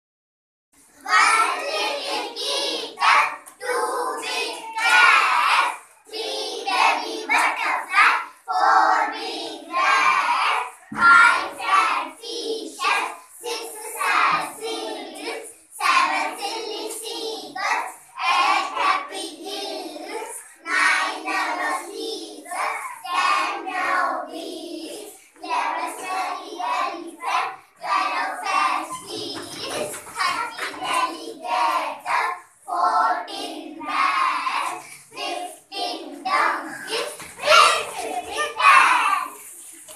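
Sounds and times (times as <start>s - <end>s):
children chanting a rhyme: 1.0s - 39.9s.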